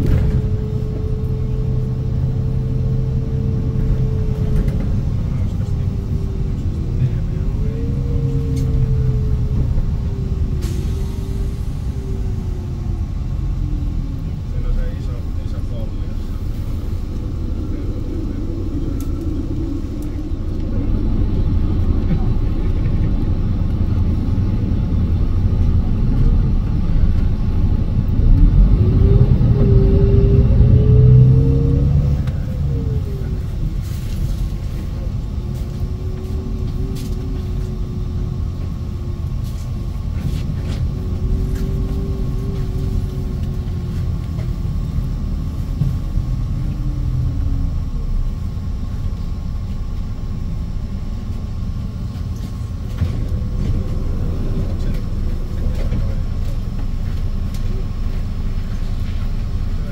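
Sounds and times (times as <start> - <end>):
bus engine rumble: 0.0 - 59.9.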